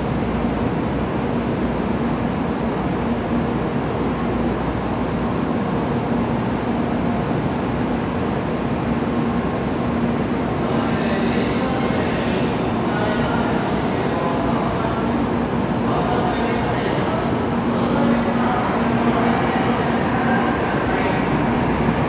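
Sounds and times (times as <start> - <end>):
trains humming: 0.0 - 22.0.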